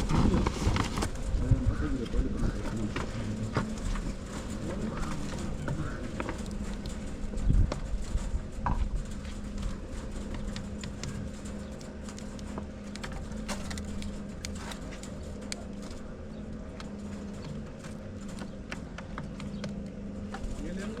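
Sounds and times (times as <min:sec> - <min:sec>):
chickens pecking at feed: 0:00.0 - 0:21.0
steady low hum: 0:00.0 - 0:21.0.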